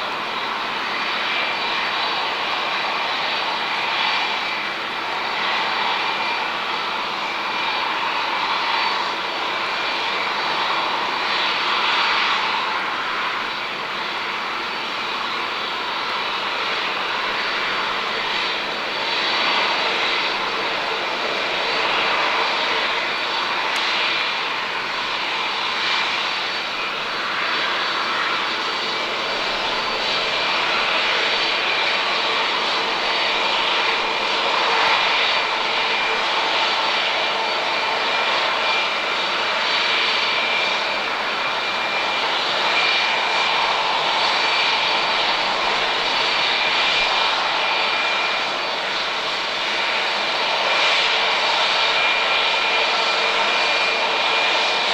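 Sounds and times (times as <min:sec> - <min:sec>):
jet engines rushing: 0:00.0 - 0:54.9
steady whining tones: 0:00.1 - 0:54.9.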